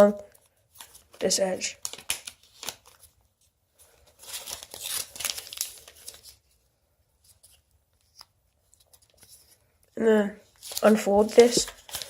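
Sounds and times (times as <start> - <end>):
paper rustling and crinkling: 0.3 - 12.0.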